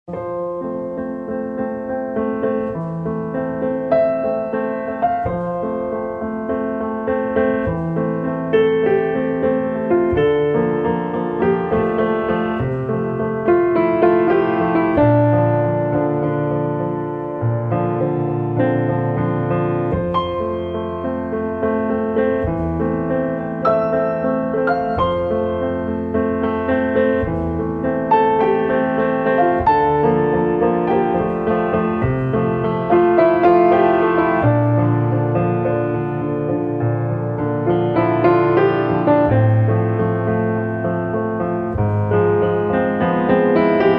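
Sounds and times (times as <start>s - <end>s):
piano melody with chords: 0.0s - 43.9s.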